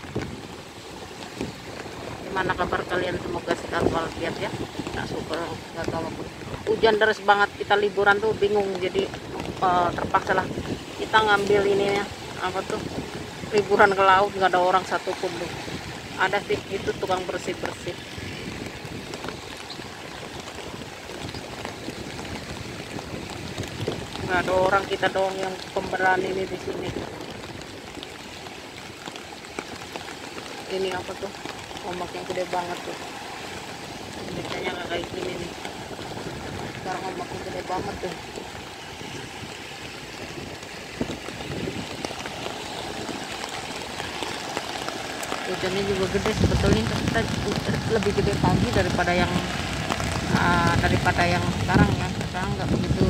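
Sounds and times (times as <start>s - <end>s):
rain: 0.0s - 53.0s
surf waves rushing: 0.0s - 53.0s.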